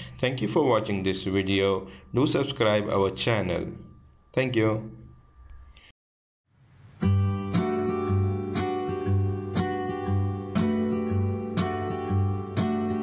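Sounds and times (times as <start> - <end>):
rhythmic background music: 0.0 - 4.9, 7.0 - 13.0.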